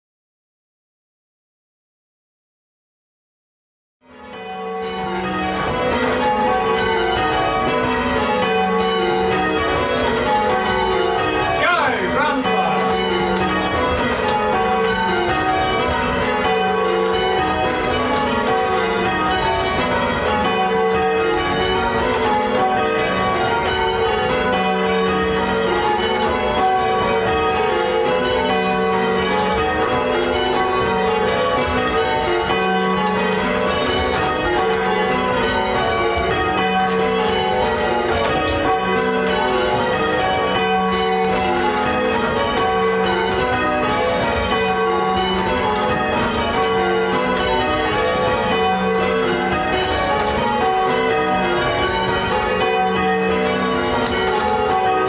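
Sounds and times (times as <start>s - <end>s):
church bells change ringing: 4.0s - 55.0s.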